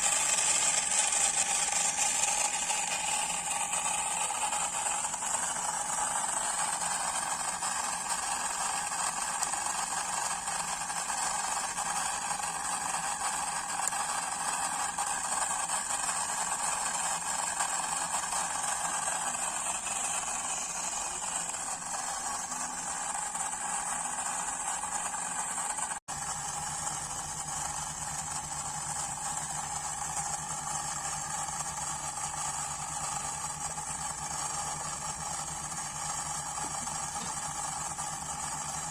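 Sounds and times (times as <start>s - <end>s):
model diesel generator whirring: 0.0s - 38.9s.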